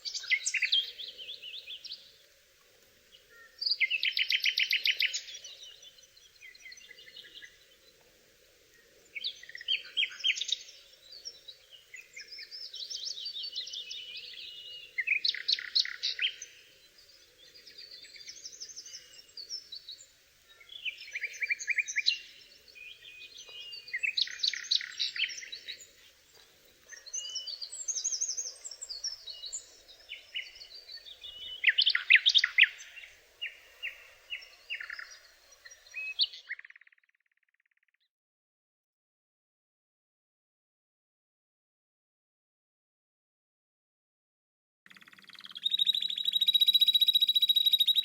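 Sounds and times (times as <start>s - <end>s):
songbirds chirping: 0.0s - 37.8s, 44.9s - 48.0s.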